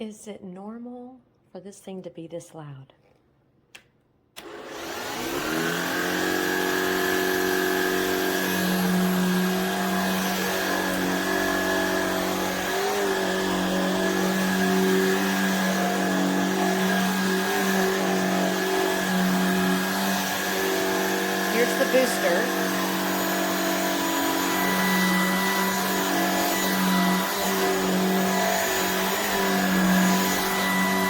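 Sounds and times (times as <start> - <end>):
vacuum cleaner motor whine: 4.4 - 31.0.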